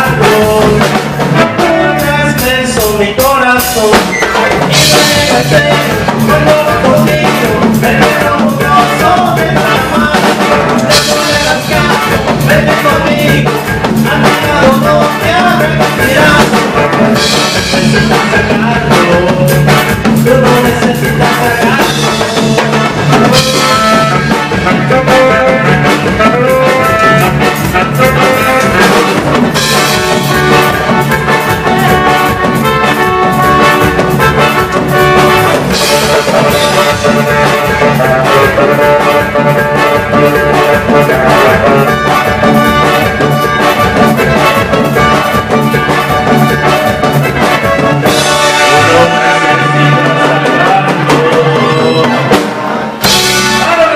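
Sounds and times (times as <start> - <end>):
brass playing: 0.0 - 53.9
steady drum beat: 0.0 - 53.9.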